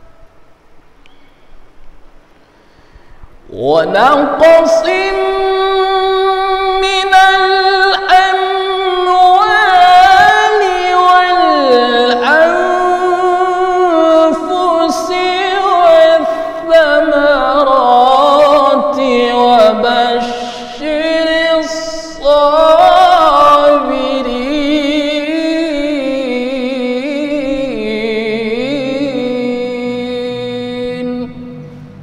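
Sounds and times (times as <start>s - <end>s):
man reciting melodically: 3.4s - 32.0s.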